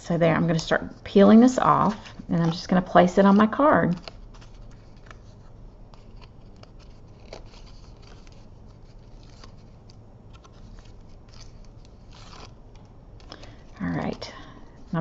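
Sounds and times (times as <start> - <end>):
paper peeling off adhesive strips: 1.8 - 15.0.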